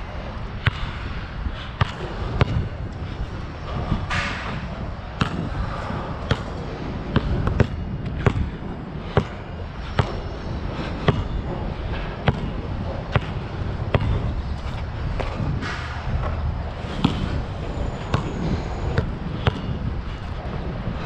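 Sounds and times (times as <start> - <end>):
low rumble: 0.0 - 21.0
basketball bouncing: 0.6 - 1.0, 1.8 - 2.8, 3.7 - 10.3, 11.0 - 20.5.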